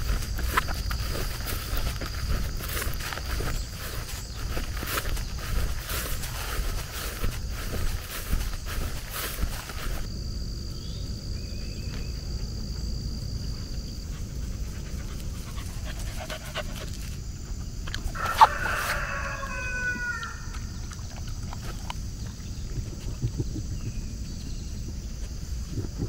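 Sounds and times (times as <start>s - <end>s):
steady low rumble: 0.0s - 17.9s, 20.7s - 26.0s.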